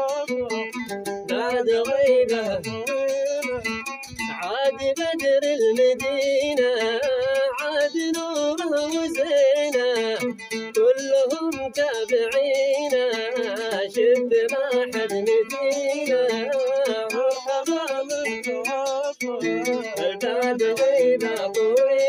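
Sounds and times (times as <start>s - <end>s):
man singing: 0.0s - 22.0s
plucked string instrument: 0.0s - 22.0s.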